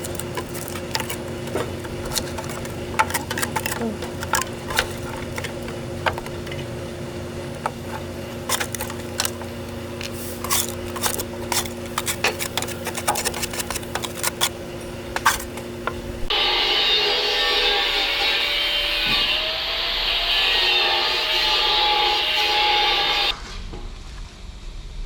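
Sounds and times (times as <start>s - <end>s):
two-tone machine hum: 0.0s - 23.3s.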